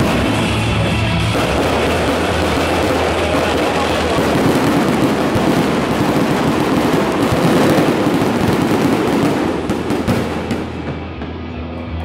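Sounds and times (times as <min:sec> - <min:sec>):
fireworks bangs and crackles: 0:00.0 - 0:11.8.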